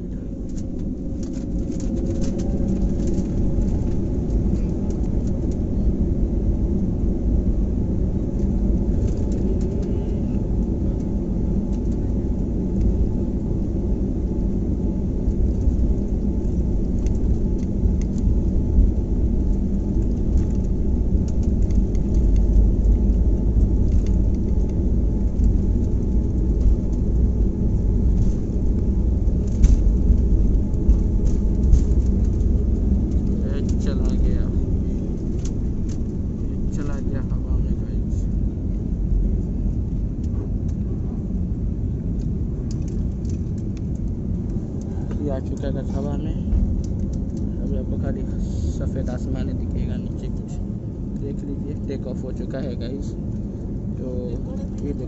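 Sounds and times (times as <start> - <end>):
jet engine whine: 0.0 - 55.0
jet engines rumbling: 0.0 - 55.0.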